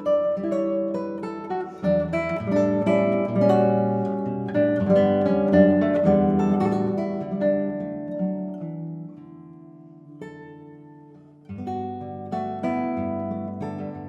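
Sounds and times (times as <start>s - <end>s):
classical guitar fingerstyle: 0.0s - 14.0s.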